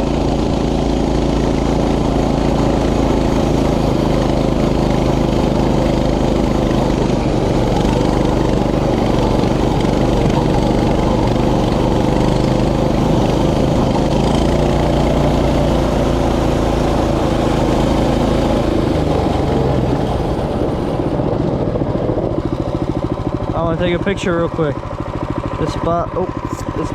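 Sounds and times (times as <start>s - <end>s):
mini bike engine running: 0.0s - 26.9s.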